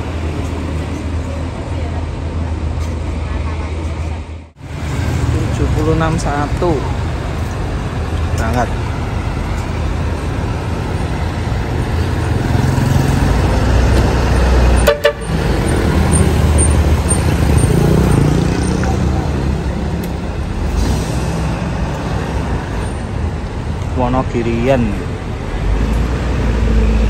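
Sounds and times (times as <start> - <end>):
bus diesel engine rumble: 0.0 - 27.0.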